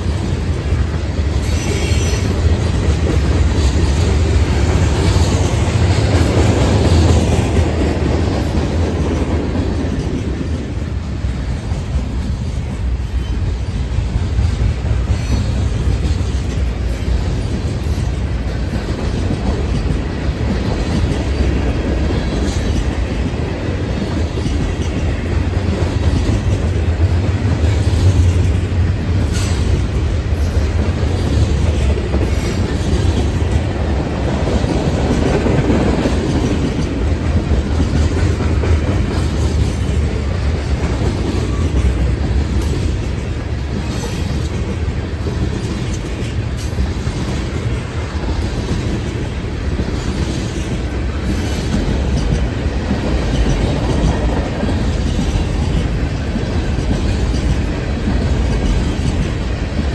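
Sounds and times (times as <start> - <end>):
freight train rumbling past: 0.0 - 59.9
wheels clicking over rail joints: 0.0 - 59.9.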